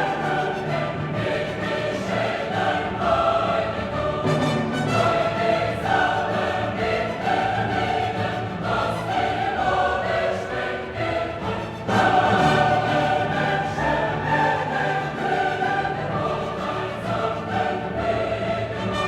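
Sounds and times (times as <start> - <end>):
choir singing held notes: 0.0 - 19.0
orchestra playing: 0.0 - 19.0.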